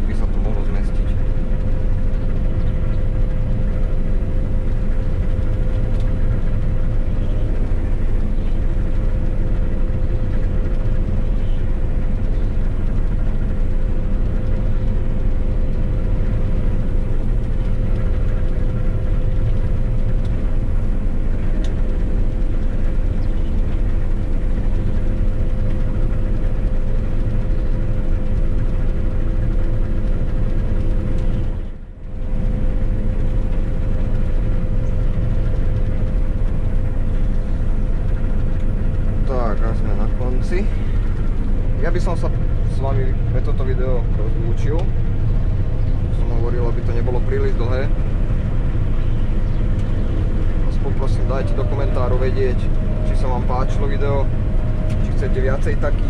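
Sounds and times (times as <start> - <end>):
deep engine rumble: 0.0 - 56.0
machinery whine: 0.0 - 56.0.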